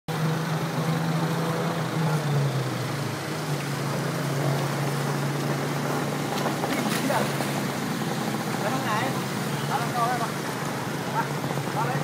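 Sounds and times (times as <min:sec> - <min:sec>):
traffic moving through water: 0:00.1 - 0:12.0
vehicle engine humming: 0:00.1 - 0:12.0.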